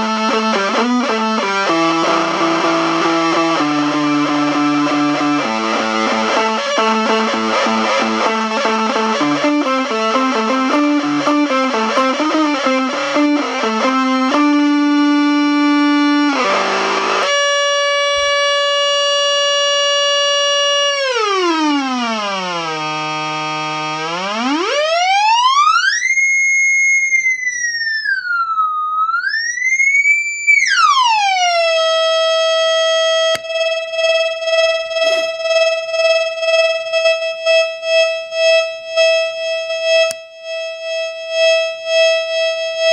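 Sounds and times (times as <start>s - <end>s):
distorted electric guitar notes: 0.0s - 42.9s
sweeping pedal tone: 0.0s - 42.9s.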